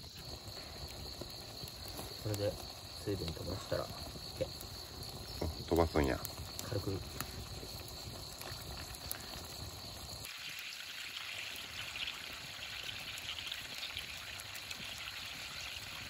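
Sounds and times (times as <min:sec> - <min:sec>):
soup simmering with bubbling hiss: 0:00.0 - 0:16.0.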